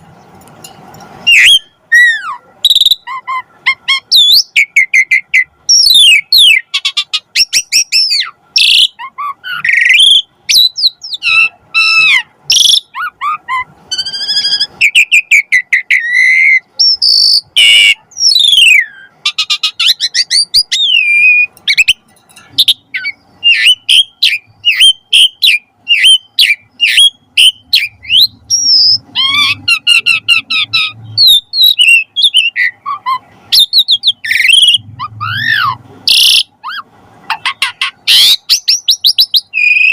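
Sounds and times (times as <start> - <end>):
starling singing whistled song: 1.2 - 39.9.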